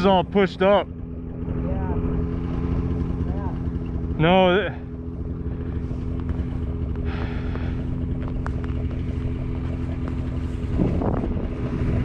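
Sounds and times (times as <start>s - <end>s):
snowmobile engine idling: 0.0s - 12.0s.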